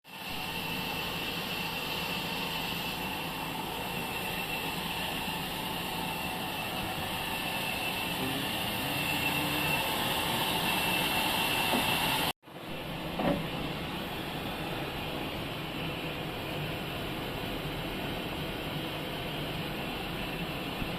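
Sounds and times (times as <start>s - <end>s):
sawmill machinery whining: 0.1s - 20.9s.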